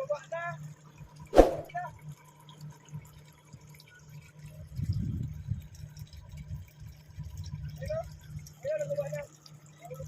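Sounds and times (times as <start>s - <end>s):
water dripping and splashing: 0.1s - 10.0s.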